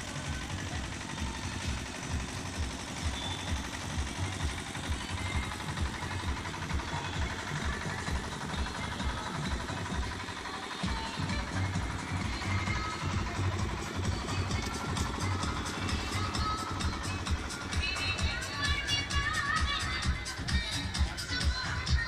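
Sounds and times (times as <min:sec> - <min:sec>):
engine running with low throb: 0:00.0 - 0:22.0.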